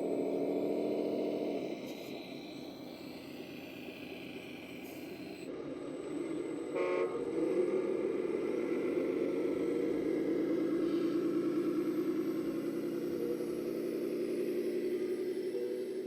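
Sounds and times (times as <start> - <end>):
simulated diesel engine running: 0.0 - 16.0.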